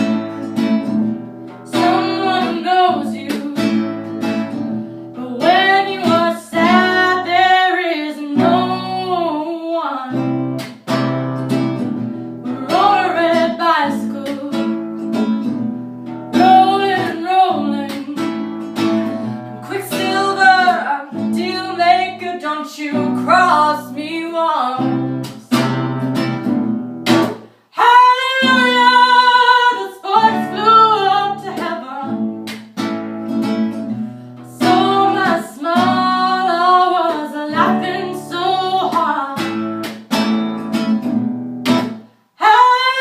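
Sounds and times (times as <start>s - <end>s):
woman singing: 0.0s - 10.7s, 12.4s - 25.9s, 27.7s - 32.6s, 33.8s - 40.0s, 42.4s - 43.0s
strummed acoustic guitar: 0.0s - 43.0s.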